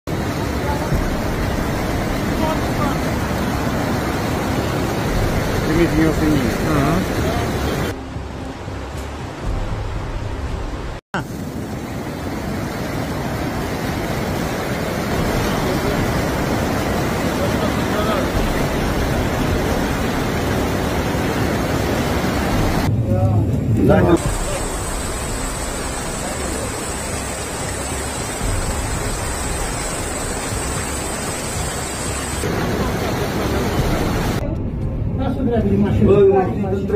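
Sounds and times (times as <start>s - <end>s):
floodwater rushing down a street: 0.1s - 8.0s, 11.2s - 34.4s.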